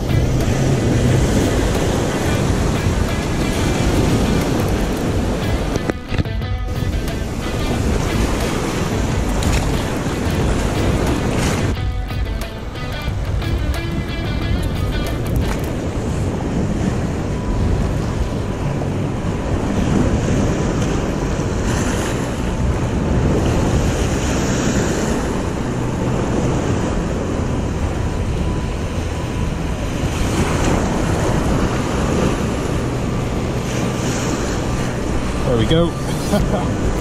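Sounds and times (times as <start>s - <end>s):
sea surf breaking: 0.0s - 37.0s
wind buffeting microphone: 0.0s - 37.0s.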